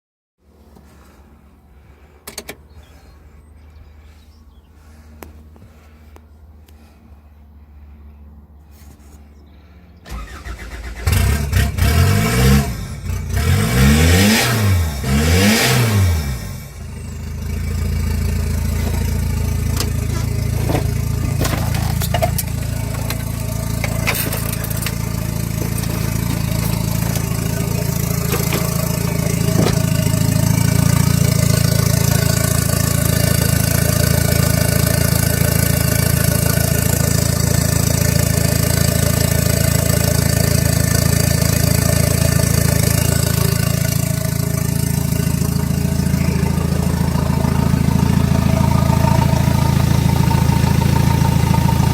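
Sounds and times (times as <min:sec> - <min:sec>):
diesel engine idling: 0:00.5 - 0:08.6, 0:09.3 - 0:51.9.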